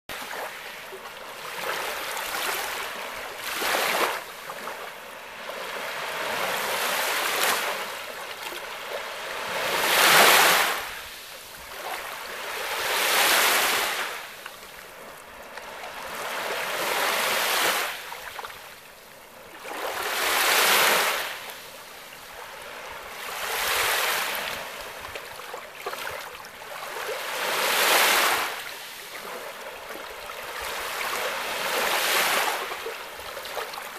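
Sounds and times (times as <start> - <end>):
lake waves washing onto sand: 0.1 - 18.8, 19.4 - 33.9.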